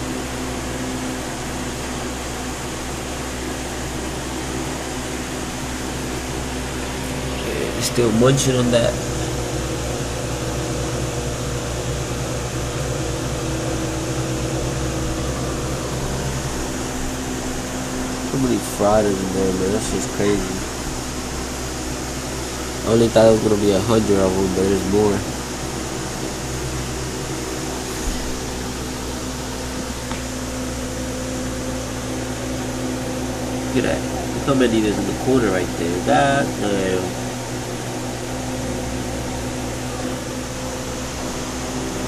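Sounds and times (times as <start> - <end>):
aquarium equipment humming: 0.0 - 42.0
low drone: 3.2 - 42.0.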